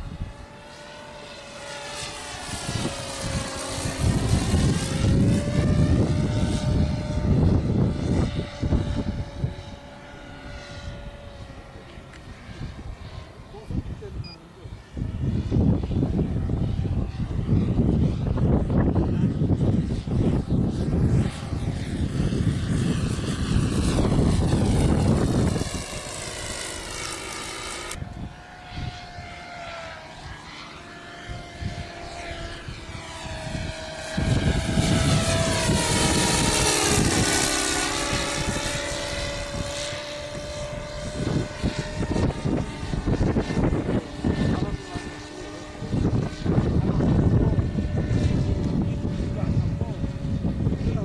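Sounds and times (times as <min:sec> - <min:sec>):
model plane propeller drone: 0:00.0 - 0:51.0.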